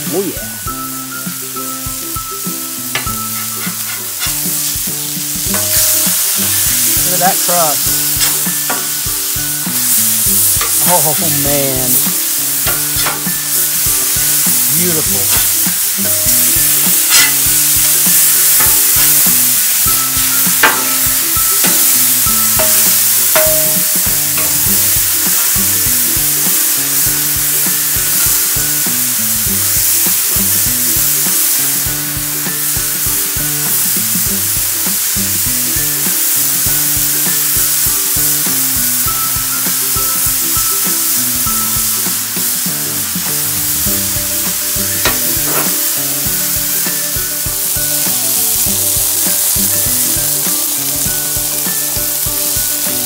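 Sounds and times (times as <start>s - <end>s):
burger patties sizzling on griddle: 0.0s - 53.0s.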